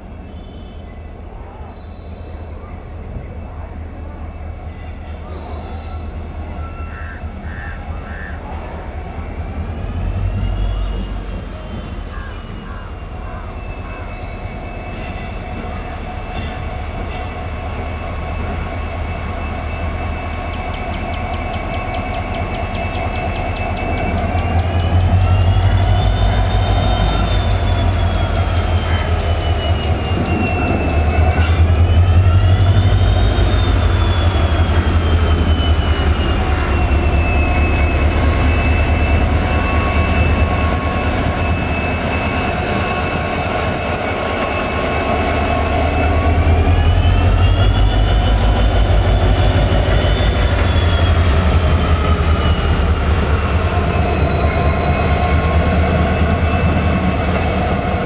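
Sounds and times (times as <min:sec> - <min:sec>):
diesel locomotive engine hum: 0:00.0 - 0:58.0.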